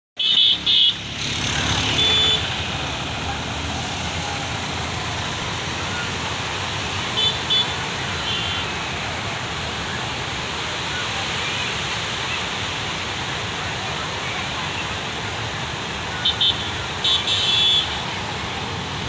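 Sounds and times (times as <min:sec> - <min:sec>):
water rushing over weir: 0:00.2 - 0:19.0.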